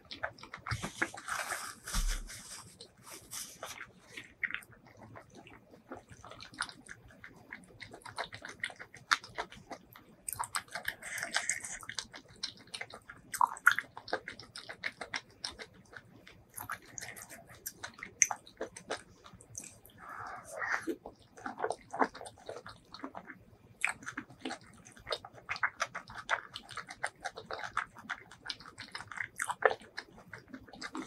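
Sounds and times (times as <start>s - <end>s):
chewing and wet mouth sounds: 0.0s - 31.0s.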